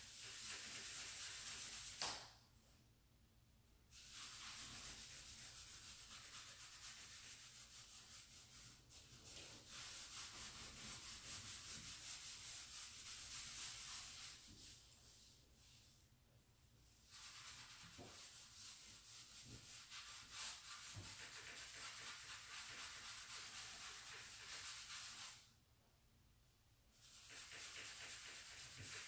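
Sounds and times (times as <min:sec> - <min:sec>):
cloth rag rubbing wax on wood: 0:00.0 - 0:02.0, 0:03.9 - 0:15.9, 0:17.0 - 0:25.5, 0:27.0 - 0:29.0.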